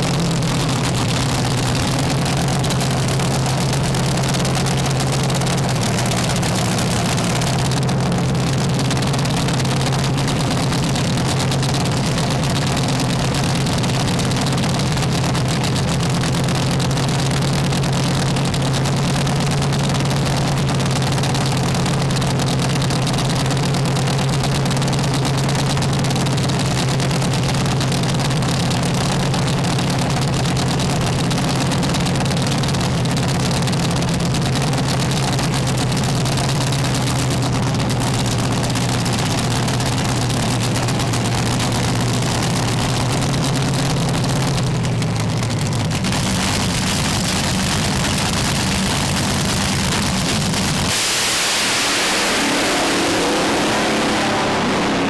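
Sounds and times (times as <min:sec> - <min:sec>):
dragster engine idling: 0:00.0 - 0:55.0.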